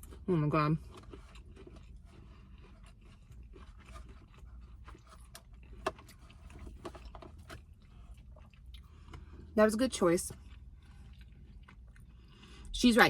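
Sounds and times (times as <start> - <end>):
person chewing: 0.0 - 12.7
low steady hum: 0.0 - 13.0.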